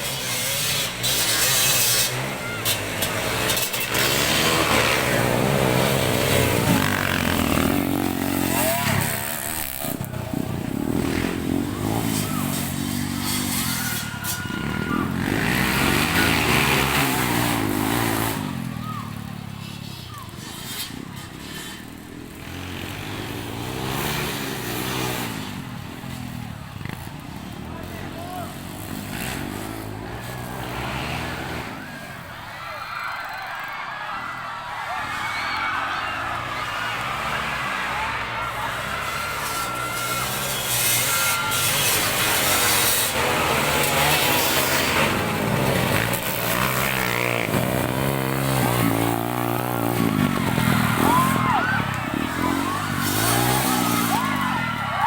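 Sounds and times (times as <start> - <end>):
motocross bike passing by: 0.0 - 55.0.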